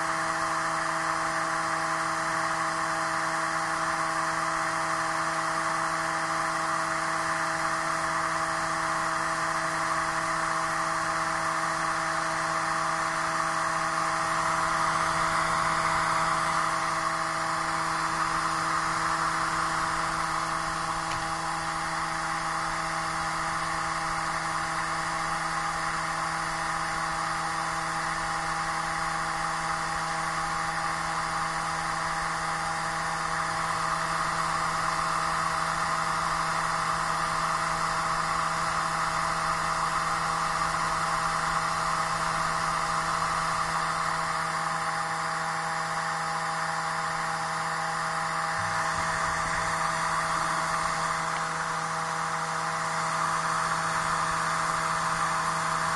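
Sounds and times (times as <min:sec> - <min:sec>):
disc drive whirring hum: 0:07.5 - 0:46.0, 0:46.6 - 0:55.9.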